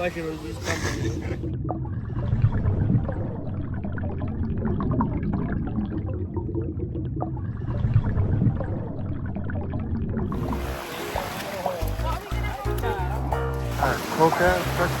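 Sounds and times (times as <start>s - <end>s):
boat engine rumble: 0.0s - 15.0s
water splashing and slapping: 0.0s - 15.0s.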